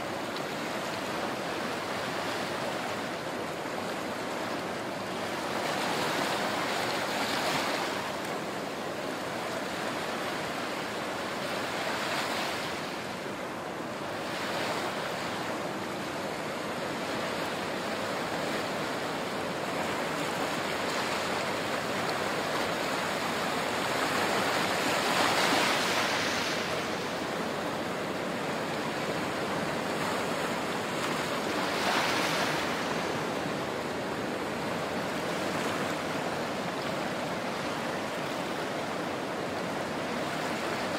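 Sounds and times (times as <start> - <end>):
small waves washing over sand: 0.0 - 40.9.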